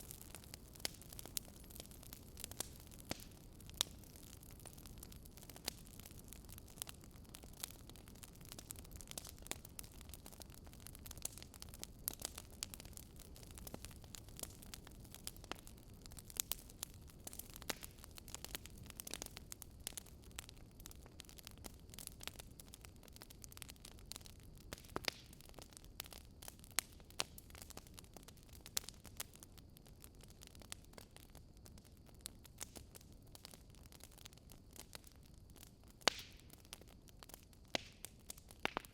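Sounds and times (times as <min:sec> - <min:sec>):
low hiss of burning logs: 0:00.0 - 0:38.9
wood fire crackling: 0:00.0 - 0:38.9.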